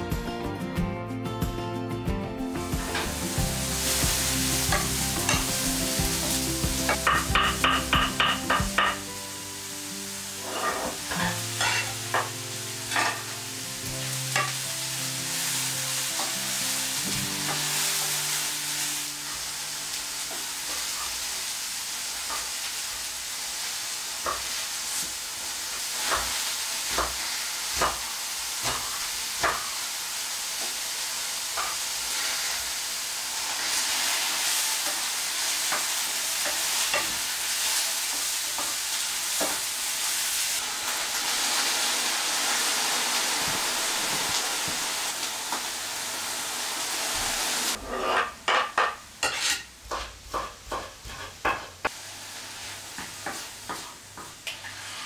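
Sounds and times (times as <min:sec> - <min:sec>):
mushrooms sizzling in frying pan: 0:02.5 - 0:55.0.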